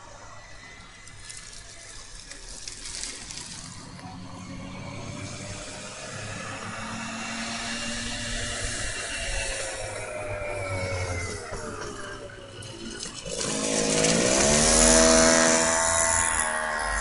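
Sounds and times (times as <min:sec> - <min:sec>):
moped engine buzzing: 0:00.0 - 0:17.0.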